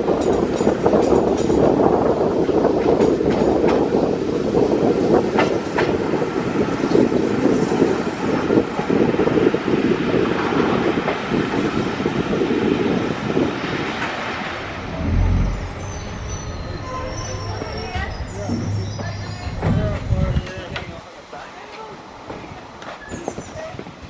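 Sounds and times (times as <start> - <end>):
train coach rumbling: 0.0 - 22.4.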